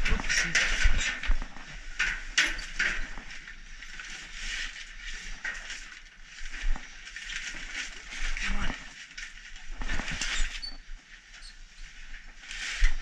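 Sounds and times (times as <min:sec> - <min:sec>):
plastic sacks rustling and crinkling: 0:00.0 - 0:13.0.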